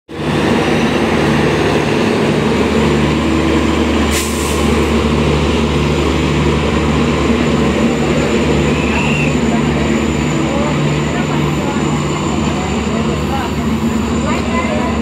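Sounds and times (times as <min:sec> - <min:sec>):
diesel train engine drone: 0:00.1 - 0:15.0.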